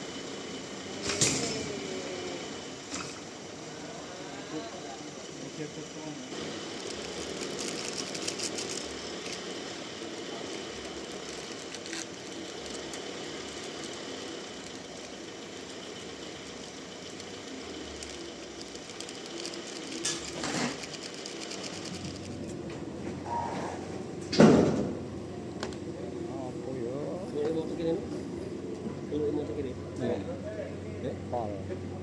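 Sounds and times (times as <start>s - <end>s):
band sawmill running: 0.0s - 23.2s, 23.8s - 32.0s.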